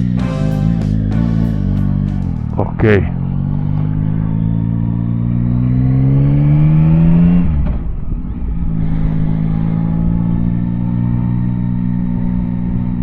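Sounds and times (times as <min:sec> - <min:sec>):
motorcycle engine pulling under throttle: 0:00.0 - 0:13.0.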